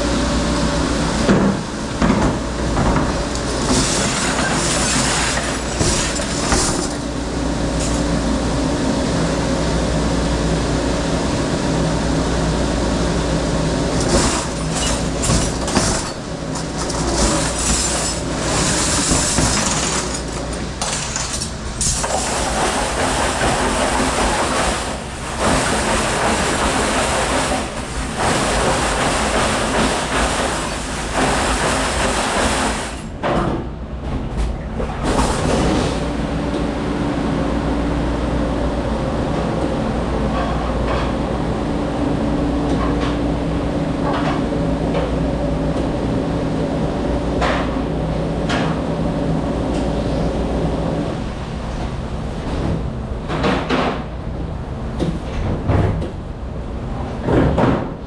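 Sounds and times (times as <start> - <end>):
dishwashing machine motor hum: 0.0 - 33.2, 34.7 - 58.0.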